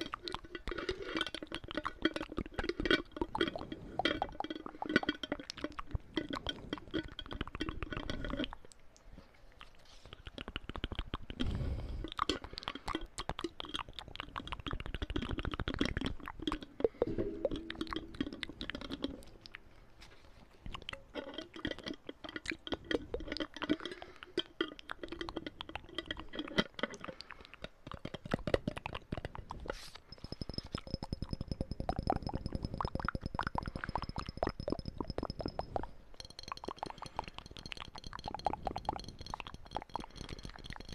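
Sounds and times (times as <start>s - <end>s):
wet mouth clicks and pops: 0.0s - 19.8s, 20.6s - 40.9s.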